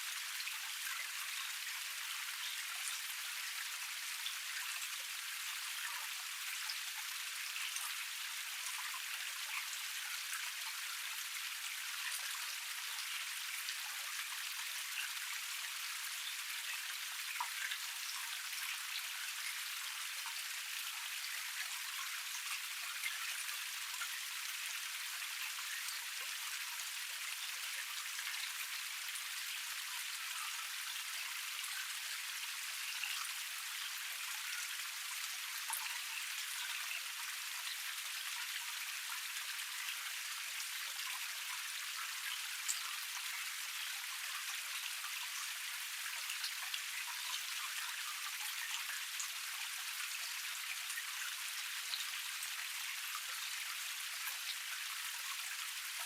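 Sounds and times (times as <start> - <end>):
small drip-like splashes: 0.0 - 56.0.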